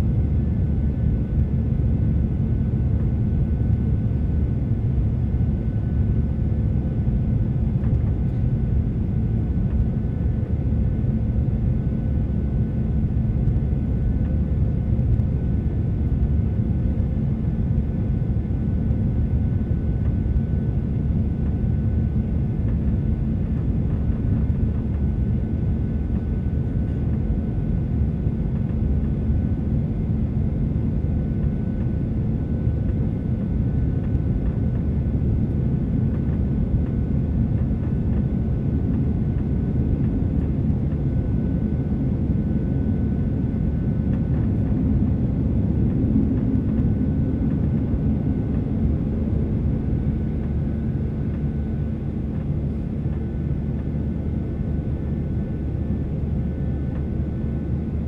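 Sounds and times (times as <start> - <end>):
low rumble of jet engines: 0.0 - 58.0.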